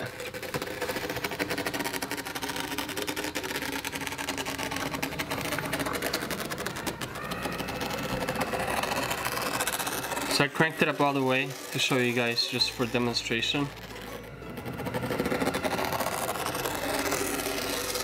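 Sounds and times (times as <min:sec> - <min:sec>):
sand drawing machine whirring: 0:00.0 - 0:18.0.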